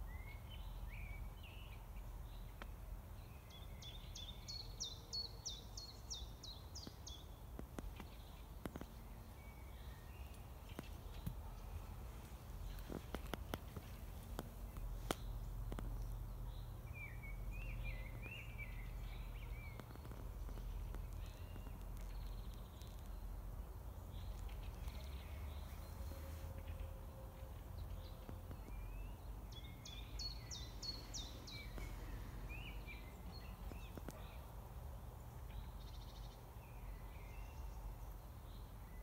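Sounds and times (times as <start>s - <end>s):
songbirds warbling: 0.0s - 39.0s.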